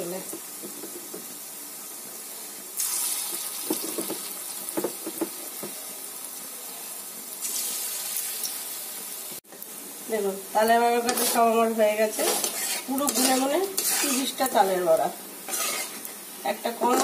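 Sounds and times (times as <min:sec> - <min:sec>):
batter sizzling in hot oil: 0:00.0 - 0:17.0.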